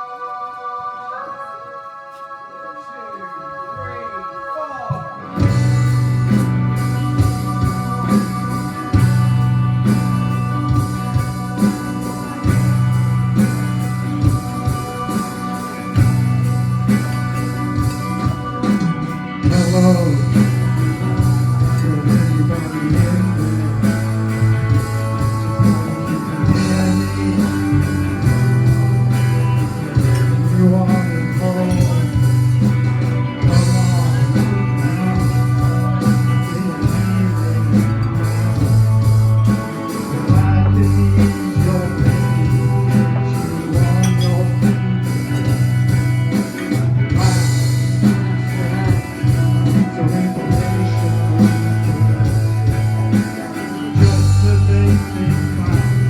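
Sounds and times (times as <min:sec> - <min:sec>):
drums steady beat: 0:04.9 - 0:56.0
electric guitar: 0:04.9 - 0:56.0
bass holding low notes: 0:05.4 - 0:56.0.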